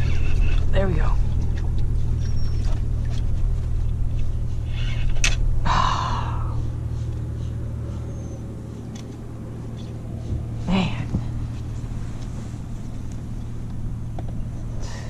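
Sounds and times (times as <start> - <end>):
motorboat engine rumble: 0.0 - 15.0.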